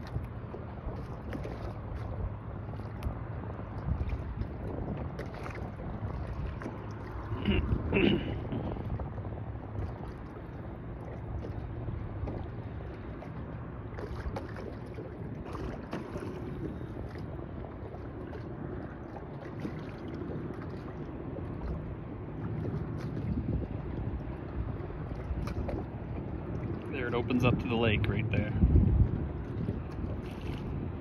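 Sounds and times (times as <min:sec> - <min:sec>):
waves splashing against boat: 0:00.0 - 0:31.0
wind rumble: 0:00.0 - 0:31.0.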